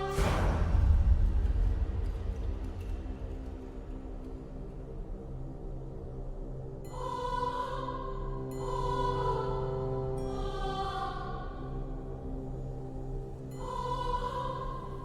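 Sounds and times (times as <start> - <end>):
choir-like chords: 0.0 - 15.0.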